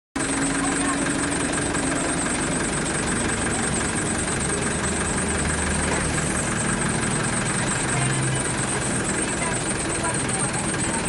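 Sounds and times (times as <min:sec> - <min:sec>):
bus engine idling: 0:00.2 - 0:11.0.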